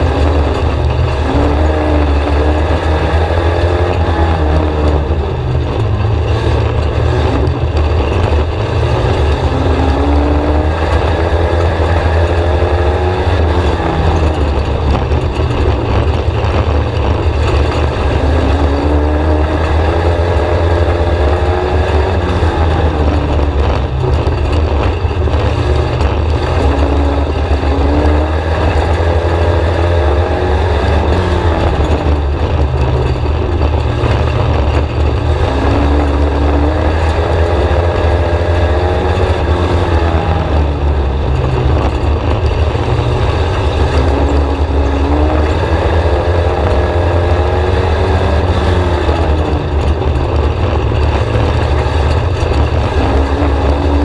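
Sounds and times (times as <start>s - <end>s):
heavy low rumble: 0.0s - 54.0s
race car engine revving: 0.0s - 54.0s.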